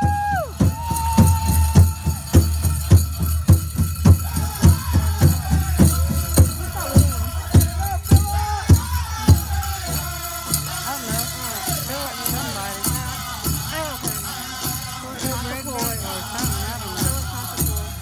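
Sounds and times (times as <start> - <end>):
big drum steady beat: 0.0 - 18.0
high singing voices: 0.0 - 18.0.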